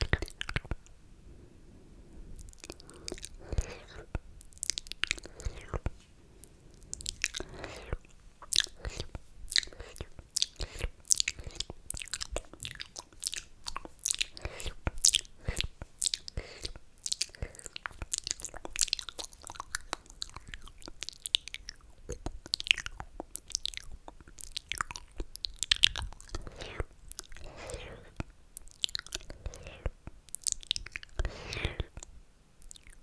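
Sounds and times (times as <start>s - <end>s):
wet mouth sounds: 0.0s - 1.0s, 2.2s - 33.0s.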